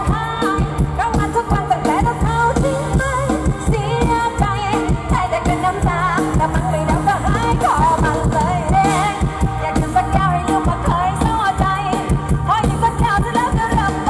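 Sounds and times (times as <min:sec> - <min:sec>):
fast drum beat: 0:00.0 - 0:14.0
heavy bass: 0:00.0 - 0:14.0
live band playing loudly: 0:00.0 - 0:14.0
woman singing into microphone: 0:00.0 - 0:14.0.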